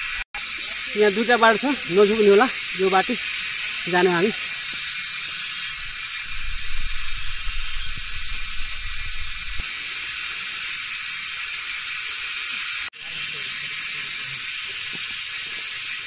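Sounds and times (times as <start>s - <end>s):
high-pitched outdoor hiss: 0.0s - 16.0s.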